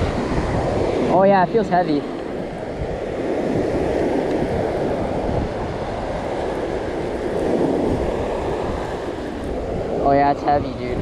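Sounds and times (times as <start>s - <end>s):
surf breaking: 0.0s - 11.0s.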